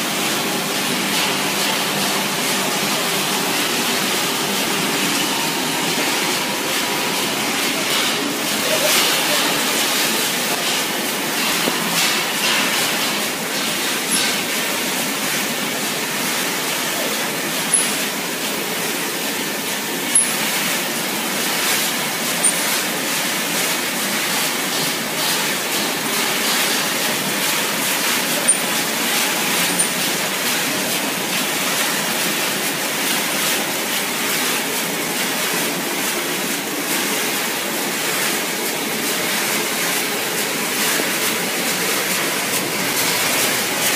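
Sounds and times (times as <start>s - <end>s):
production line machinery: 0.0s - 43.9s.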